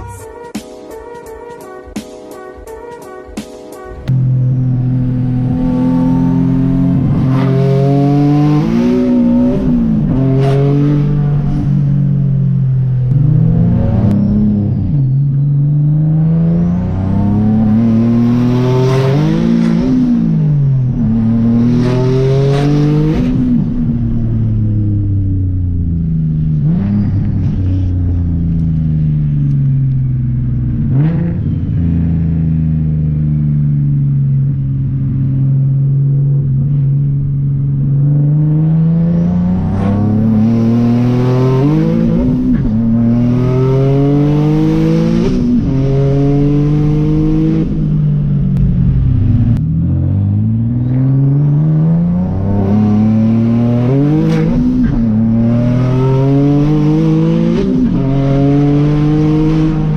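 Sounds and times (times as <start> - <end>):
car engine accelerating through gears: 4.1 - 59.9.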